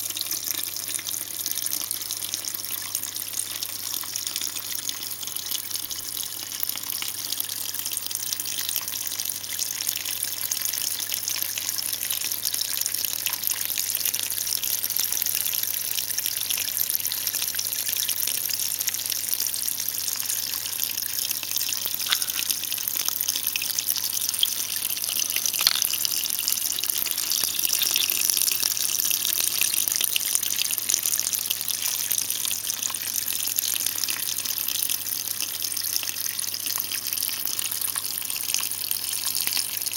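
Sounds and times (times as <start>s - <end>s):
water trickling into pool: 0.0s - 39.9s.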